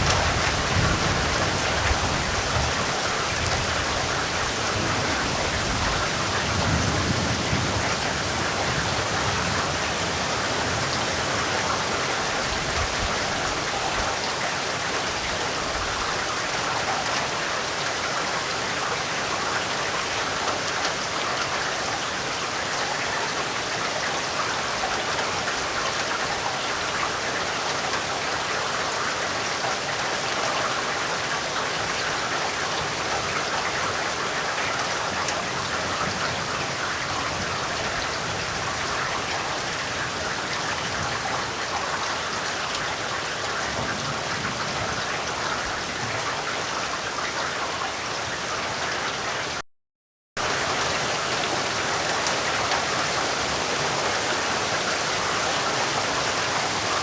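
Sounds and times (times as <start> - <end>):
dense rain pattering: 0.0 - 49.6, 50.4 - 57.0.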